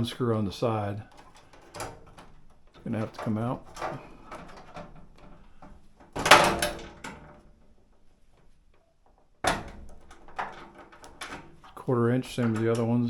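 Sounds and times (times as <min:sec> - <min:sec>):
metal tools clattering on metal: 0:01.1 - 0:08.5, 0:09.4 - 0:13.0.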